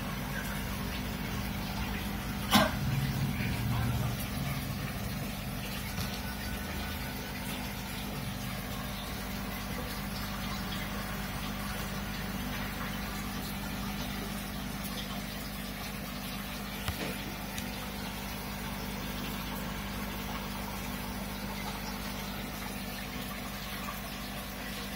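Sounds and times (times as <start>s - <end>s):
circulating water rushing: 0.0s - 24.9s
low pump hum: 0.0s - 24.9s.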